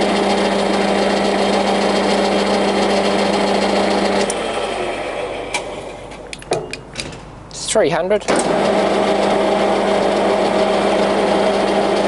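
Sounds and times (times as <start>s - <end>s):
lathe hum and gear whine: 0.0s - 6.9s, 8.4s - 12.0s.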